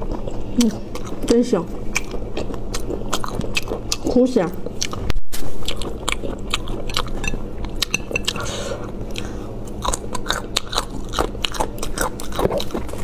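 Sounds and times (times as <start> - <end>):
person chewing close up: 0.0 - 13.0.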